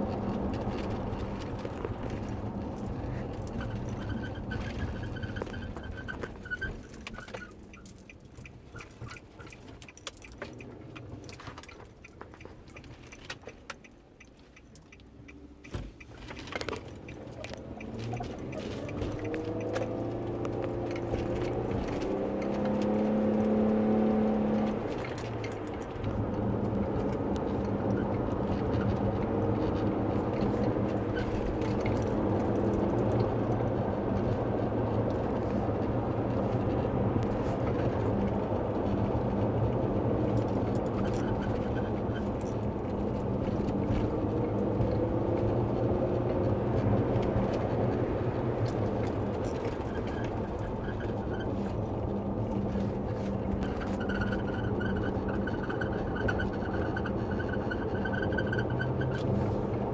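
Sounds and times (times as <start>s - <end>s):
road and engine hum: 0.0s - 59.9s
squeaks and clicks in car cabin: 0.0s - 59.9s.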